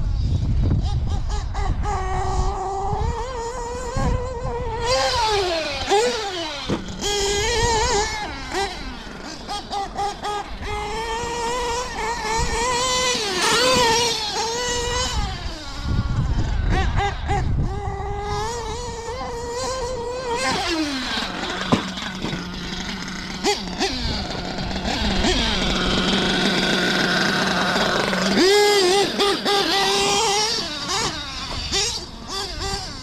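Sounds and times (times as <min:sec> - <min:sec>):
model truck engine whining: 0:00.0 - 0:33.0.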